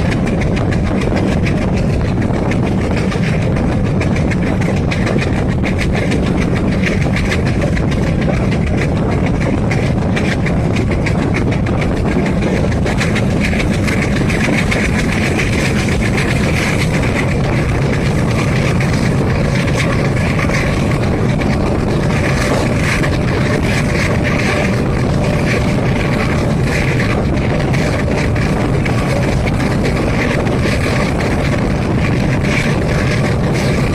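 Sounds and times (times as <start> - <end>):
diesel engine drone: 0.0 - 33.9
train wheels clicking over rail joints: 0.0 - 33.9.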